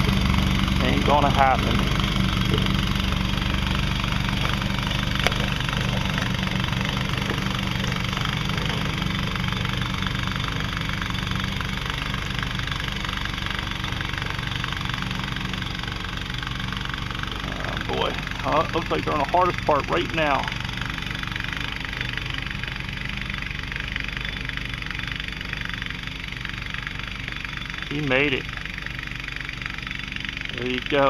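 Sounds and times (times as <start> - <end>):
atv engine idling: 0.0 - 31.0.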